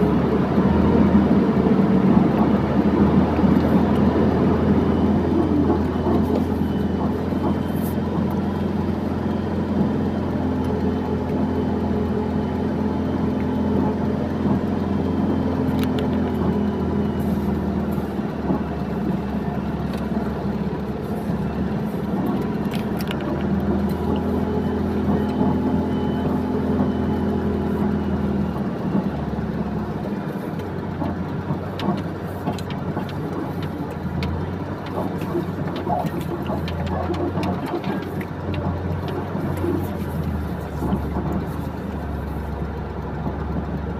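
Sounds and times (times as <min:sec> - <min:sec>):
diesel machinery engine running: 0:00.0 - 0:43.9.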